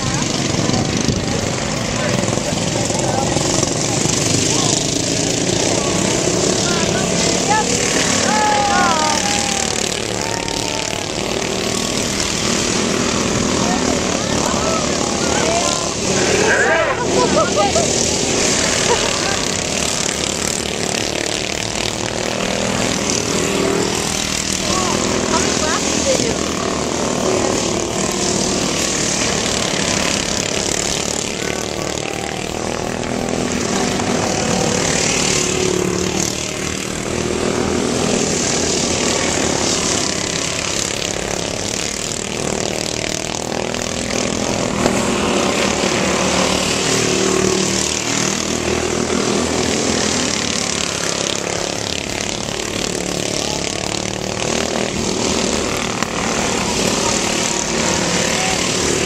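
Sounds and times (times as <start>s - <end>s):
small engines buzzing: 0.0s - 59.0s.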